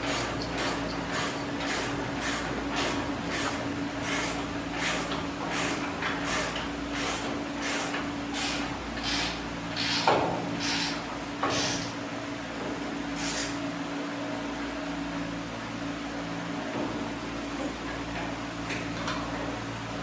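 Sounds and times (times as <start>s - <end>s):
steady shop hum: 0.0s - 20.0s.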